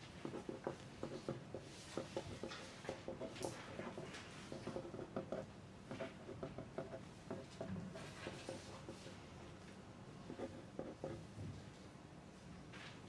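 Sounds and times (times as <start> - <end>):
pencils scratching and tapping: 0.0 - 11.4.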